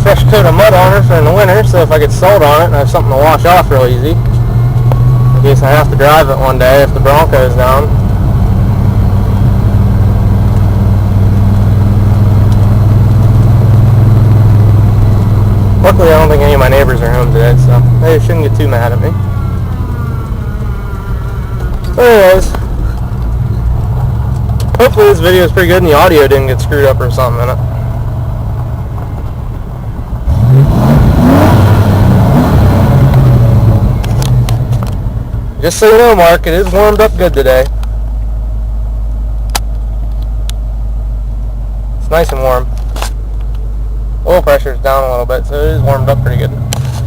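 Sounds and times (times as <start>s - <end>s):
truck engine idling: 0.0s - 30.9s, 32.0s - 47.0s.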